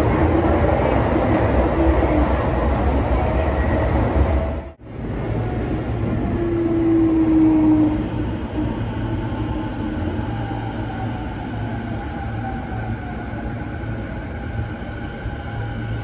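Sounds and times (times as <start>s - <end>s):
subway train rumbling on rails: 0.0s - 16.0s.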